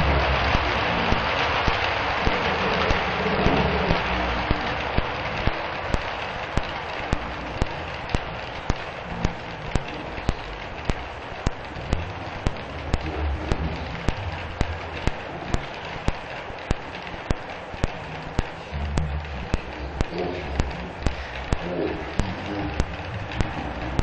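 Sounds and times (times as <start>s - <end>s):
low hum: 0.0s - 24.0s
model train rolling hiss: 0.0s - 24.0s
rail joint clicks: 0.0s - 24.0s.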